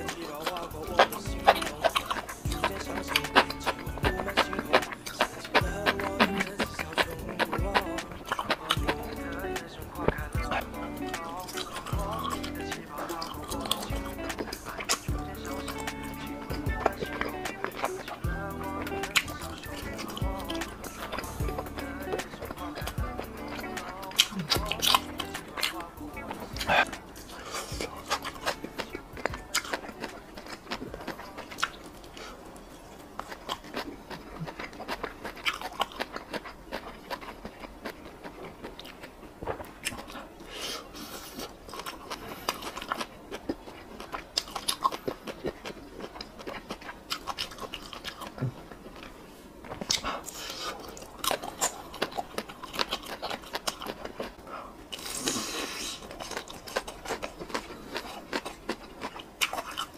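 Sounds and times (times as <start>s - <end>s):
biting and chewing crunchy food: 0.0s - 59.9s.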